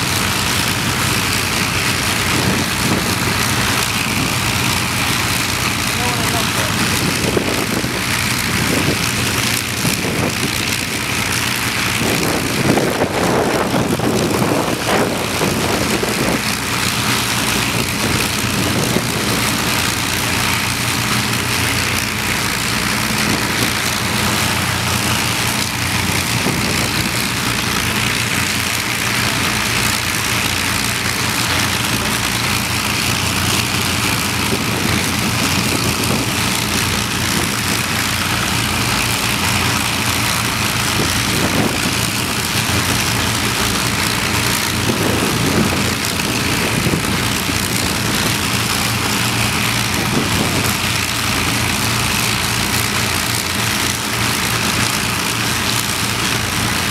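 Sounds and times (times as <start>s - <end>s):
propeller engines idling: 0.0s - 56.9s.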